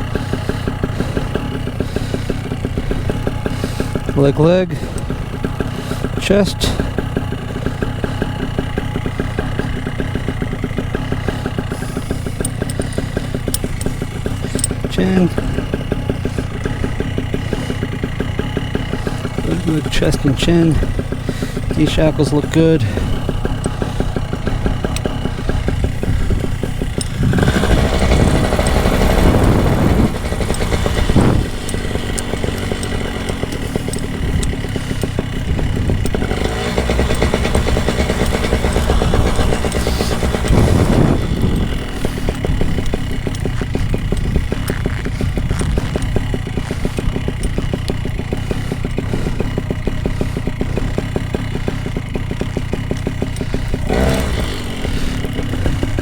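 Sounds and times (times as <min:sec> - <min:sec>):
paramotor engine idling: 0:00.0 - 0:56.0.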